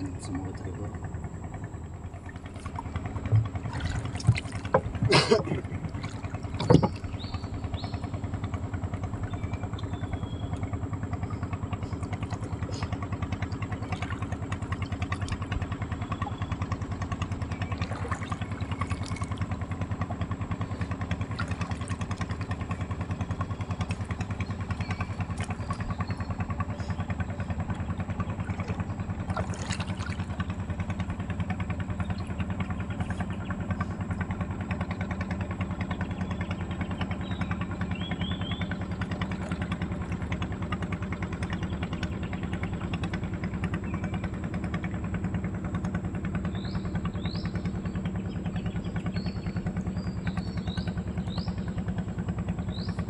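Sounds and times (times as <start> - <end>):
boat engine running: 0.0 - 53.0.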